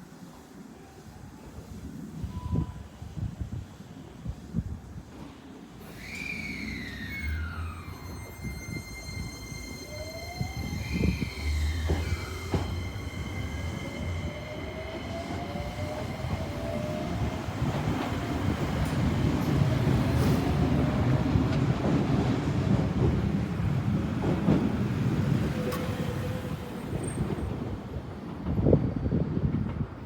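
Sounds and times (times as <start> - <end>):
train wheels rumbling on rails: 4.4 - 30.0.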